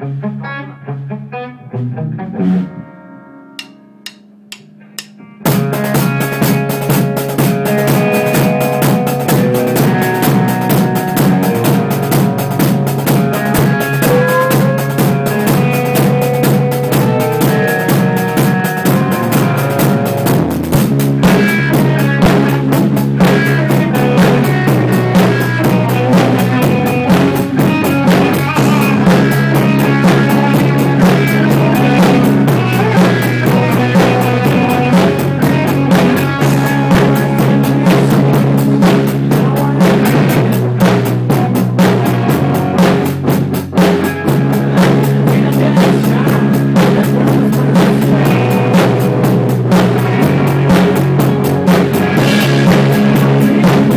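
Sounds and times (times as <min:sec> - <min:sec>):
rock band playing loud: 0:00.0 - 0:53.9.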